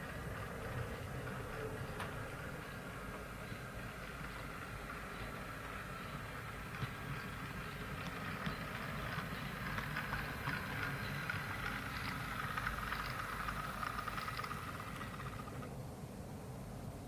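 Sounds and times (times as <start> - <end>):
model train running on track: 0.0 - 15.7.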